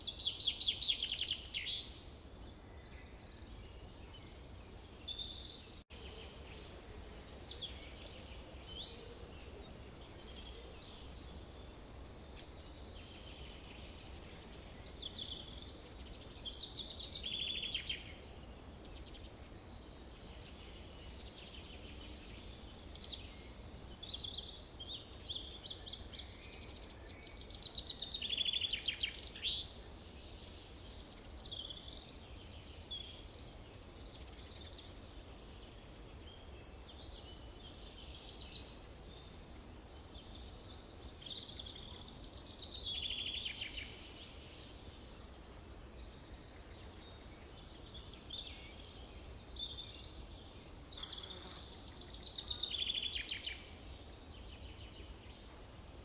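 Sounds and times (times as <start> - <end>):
forest birds singing: 0.0 - 56.0.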